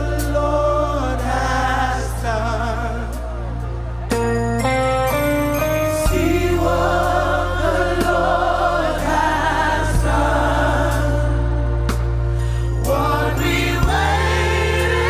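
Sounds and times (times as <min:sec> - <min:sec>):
choir singing gospel: 0:00.0 - 0:15.0
keyboard and bass chords: 0:00.0 - 0:15.0.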